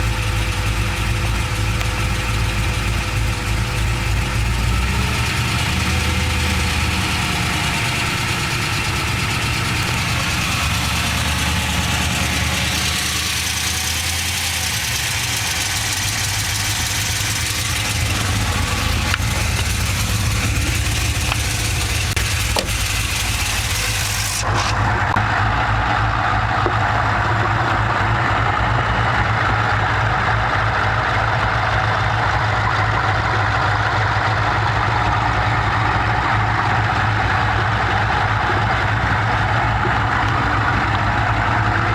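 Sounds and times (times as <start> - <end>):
engine idling with ticking: 0.0 - 41.9.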